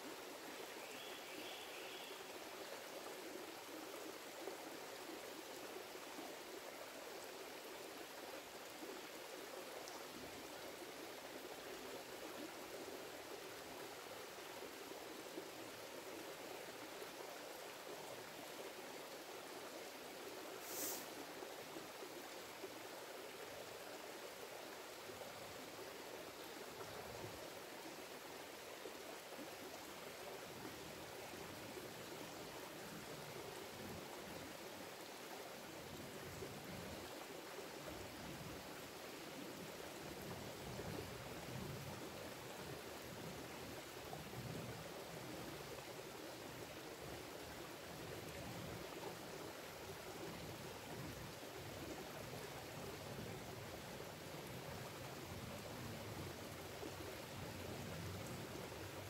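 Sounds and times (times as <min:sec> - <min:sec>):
creek flowing over rocks: 0:00.0 - 0:59.0.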